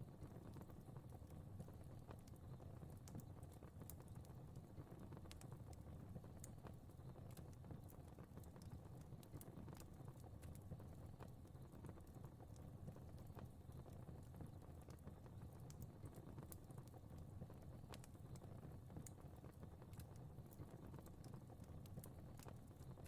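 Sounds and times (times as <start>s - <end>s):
low rumble of flames: 0.0s - 23.0s
fire crackling: 2.0s - 23.0s.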